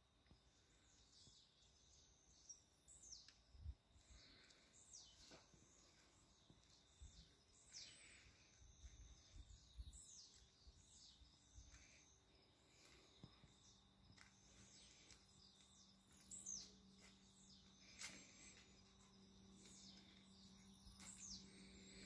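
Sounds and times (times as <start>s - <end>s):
birds chirping and whistling: 4.0s - 22.0s.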